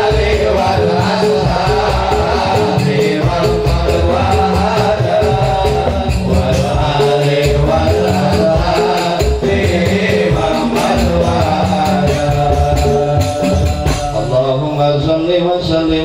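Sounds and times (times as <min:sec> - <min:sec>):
instrumental music with pulsing bass: 0:00.0 - 0:14.6
steady percussion beat: 0:00.0 - 0:14.8.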